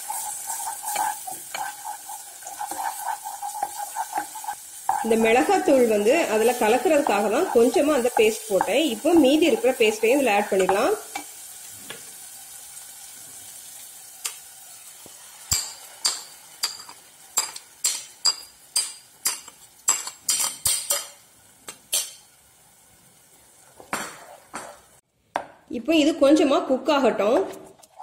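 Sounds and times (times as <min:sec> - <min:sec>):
paste sizzling in oil: 0:00.0 - 0:25.0.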